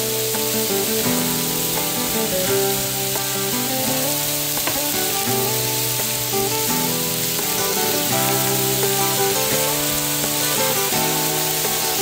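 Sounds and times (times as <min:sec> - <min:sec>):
background music: 0:00.0 - 0:12.0
pork sizzling in frying pan: 0:00.0 - 0:12.0.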